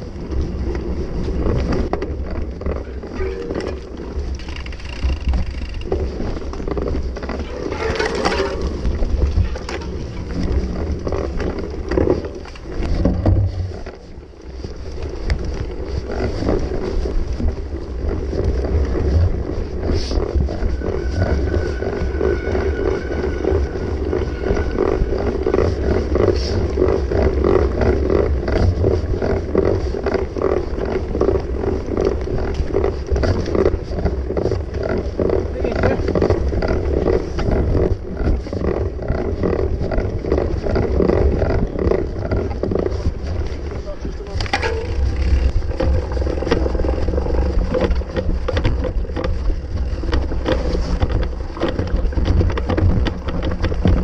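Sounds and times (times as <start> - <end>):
bike rattling over bumps: 0.0 - 54.0
wind rumble on microphone: 0.0 - 54.0.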